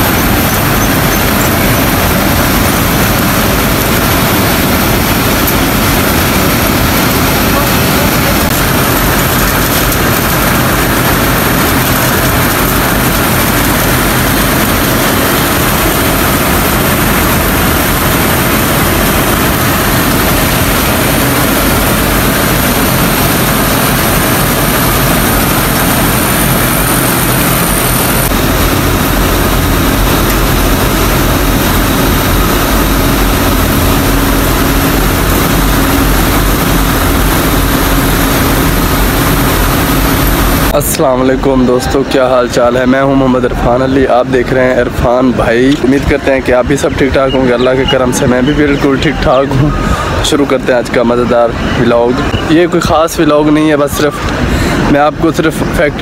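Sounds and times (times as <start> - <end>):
cotton machinery mechanical din: 0.0 - 56.0.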